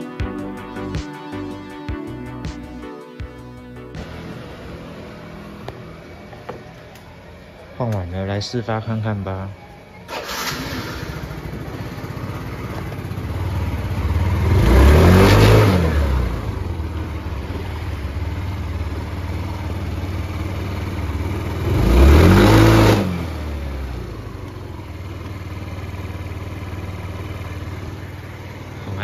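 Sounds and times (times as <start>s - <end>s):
scooter engine idling and revving: 0.0s - 7.8s, 9.5s - 29.0s.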